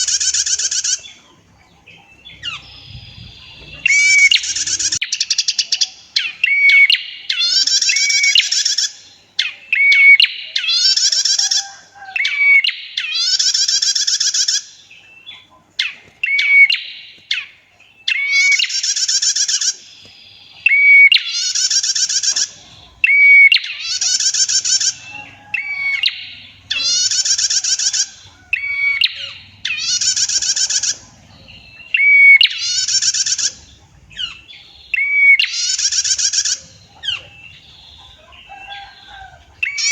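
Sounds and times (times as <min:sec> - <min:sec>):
bird whistling and trilling: 0:02.1 - 0:11.6, 0:12.2 - 0:19.9, 0:20.5 - 0:39.9.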